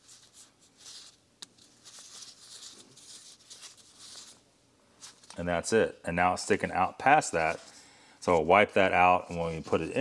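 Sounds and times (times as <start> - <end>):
gloved fingers rustling: 0.0 - 5.8, 7.1 - 10.0.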